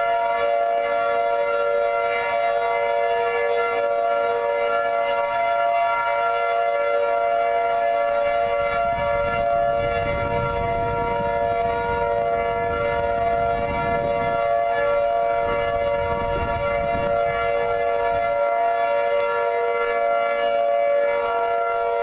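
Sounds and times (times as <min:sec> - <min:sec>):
tornado siren steady chord: 0:00.0 - 0:22.0.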